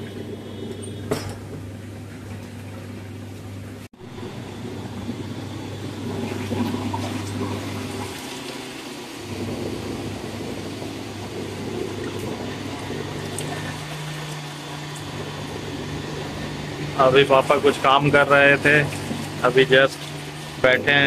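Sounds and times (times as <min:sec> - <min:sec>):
low machine hum: 0:00.0 - 0:21.0
water running: 0:00.0 - 0:21.0.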